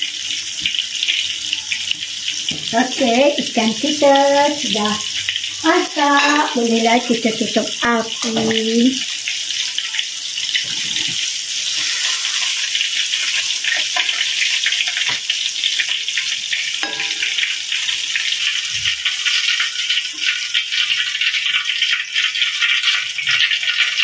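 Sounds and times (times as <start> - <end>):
hot oil sizzling and crackling: 0.0 - 24.0.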